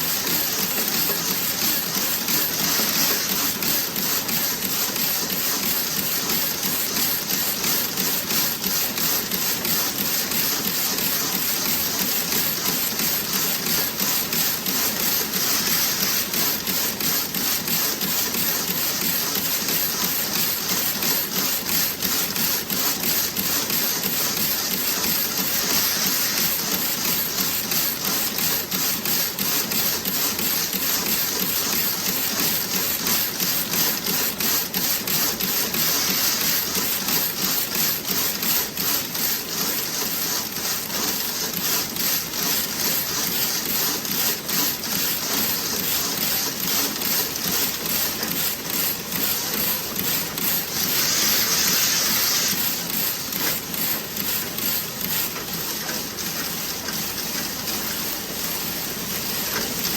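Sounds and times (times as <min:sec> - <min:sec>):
knitting machine clattering: 0:00.0 - 0:57.9.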